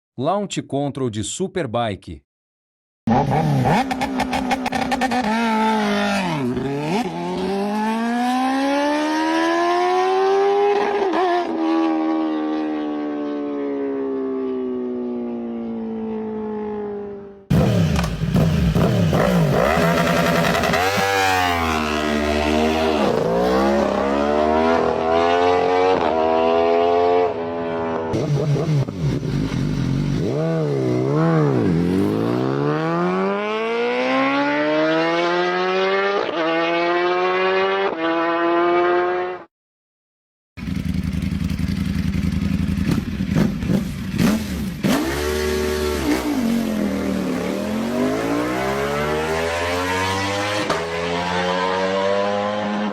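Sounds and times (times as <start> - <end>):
motorbike engine revving: 3.1 - 12.9, 17.5 - 39.4, 40.6 - 52.9.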